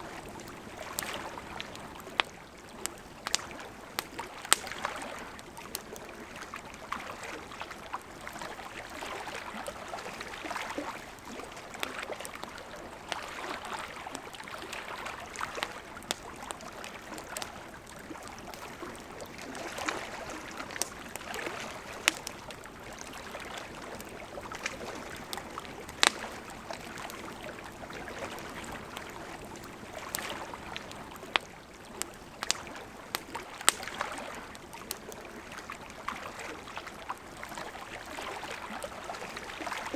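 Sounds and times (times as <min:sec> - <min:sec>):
campfire crackling and popping: 0:00.0 - 0:39.9
gently flowing river: 0:00.0 - 0:39.9.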